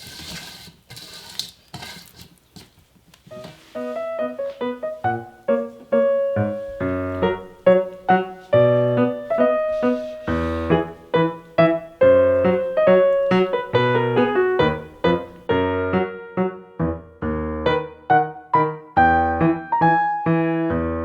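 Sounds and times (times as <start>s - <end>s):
piano music: 3.3s - 21.0s.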